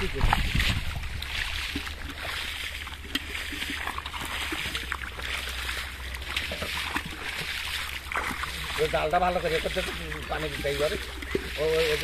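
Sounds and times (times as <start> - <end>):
fish splashing in water: 0.0 - 12.0
sharp water slap: 0.0 - 12.0.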